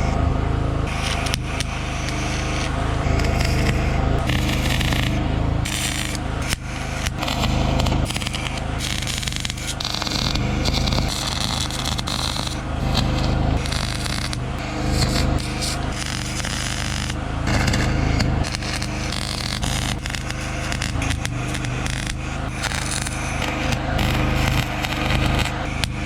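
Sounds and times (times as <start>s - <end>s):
arc welder crackling: 0.0s - 26.0s
welder low hum: 0.0s - 26.0s.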